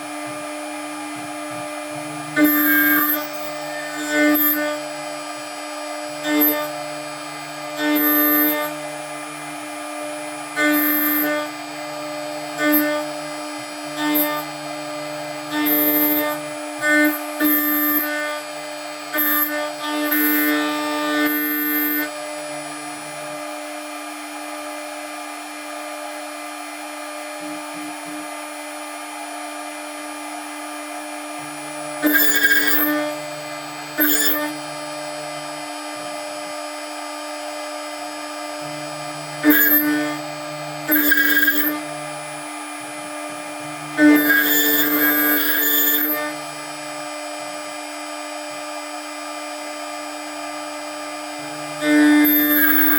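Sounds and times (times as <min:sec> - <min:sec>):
metal cutting noise: 0:00.0 - 0:52.9
milling spindle whine: 0:00.0 - 0:52.9.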